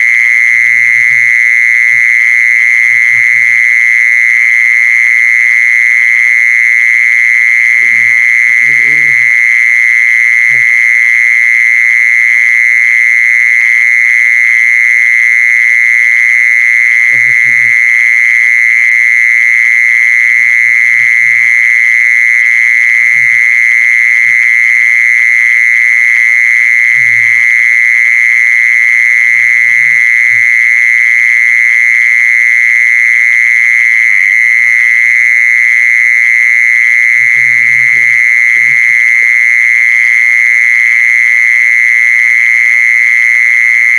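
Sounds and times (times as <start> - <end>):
insect high-pitched buzz: 0.0 - 43.9.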